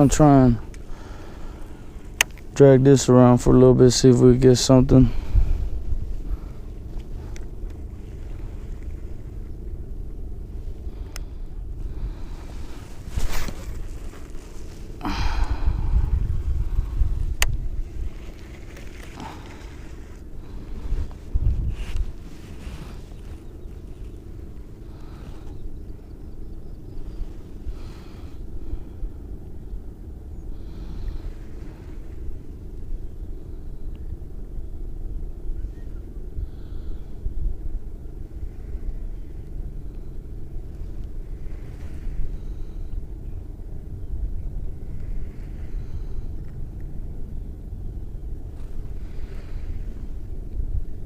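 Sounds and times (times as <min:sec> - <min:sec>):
faint rustles: 0:00.0 - 0:34.5, 0:35.3 - 0:51.0
wind buffeting microphone: 0:00.0 - 0:51.0.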